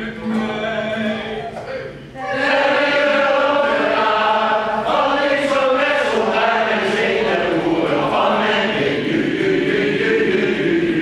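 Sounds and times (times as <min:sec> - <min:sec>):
choir singing held notes: 0:00.0 - 0:11.0.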